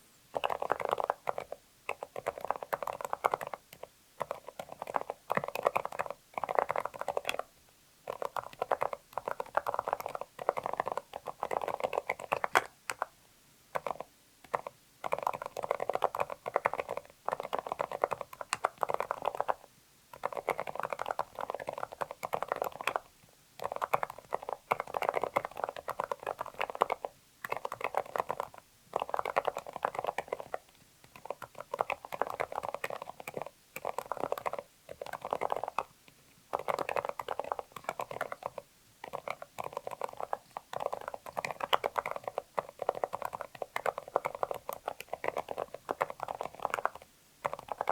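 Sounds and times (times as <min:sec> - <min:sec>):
muffled mechanical keyboard typing: 0:00.3 - 0:13.1, 0:13.7 - 0:47.9.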